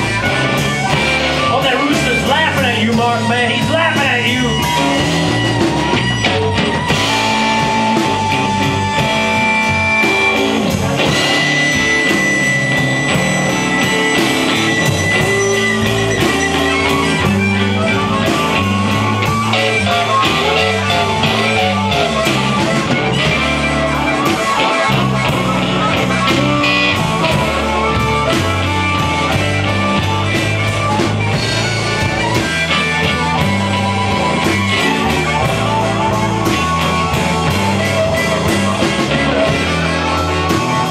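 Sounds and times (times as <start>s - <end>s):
amplified harmonica soloing: 0.0s - 40.9s
drum kit: 0.0s - 40.9s
electric bass: 0.0s - 40.9s
electric guitar: 0.0s - 40.9s.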